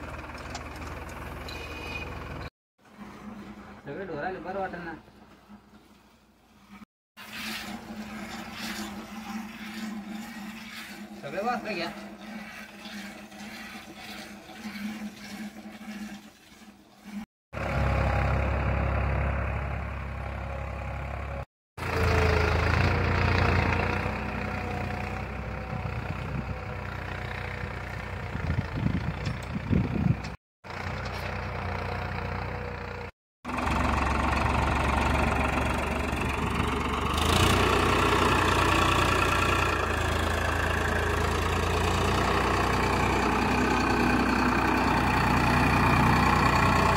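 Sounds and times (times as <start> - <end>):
tractor engine rumbling: 0.0 - 16.0, 17.6 - 46.9.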